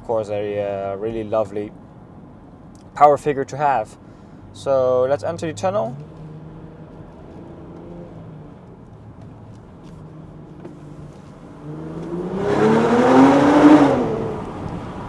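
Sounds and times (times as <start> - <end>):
car engine and exhaust: 0.0 - 15.0.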